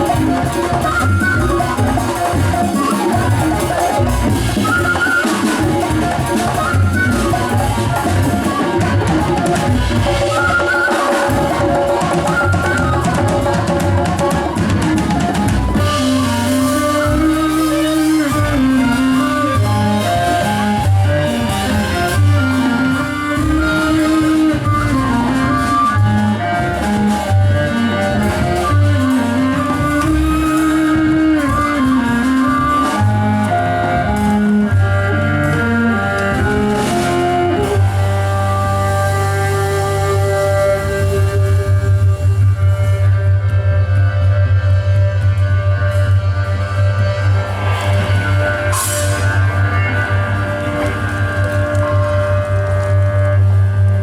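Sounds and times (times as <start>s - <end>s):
drum kit beat: 0.0s - 43.3s
live band playing: 0.0s - 54.0s.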